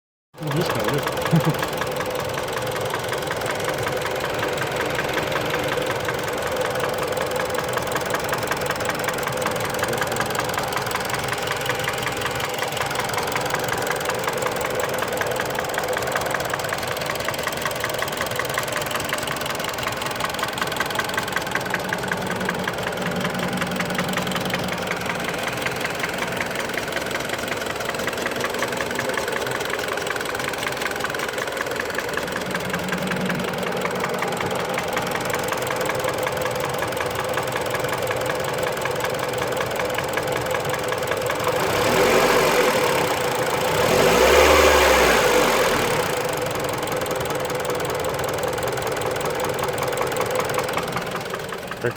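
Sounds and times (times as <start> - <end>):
car engine idling: 0.4 - 51.9
rapid engine knock: 0.4 - 51.9.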